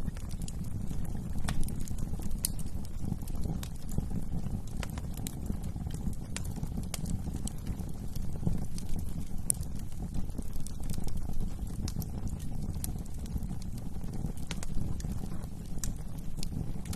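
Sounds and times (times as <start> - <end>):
burning wood crackling: 0.0 - 16.9
low rumble of flames: 0.0 - 16.9.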